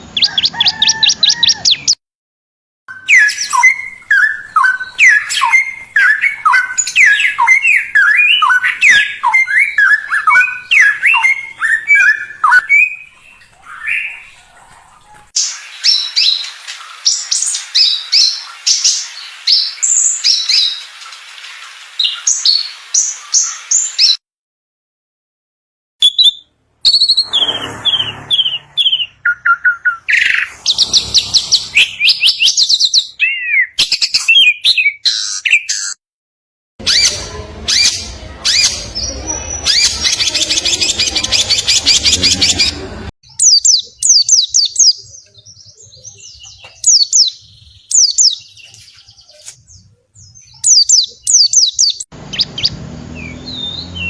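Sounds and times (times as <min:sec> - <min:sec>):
songbirds singing and chattering: 0:02.9 - 0:24.2, 0:26.0 - 0:36.0, 0:36.8 - 0:54.0.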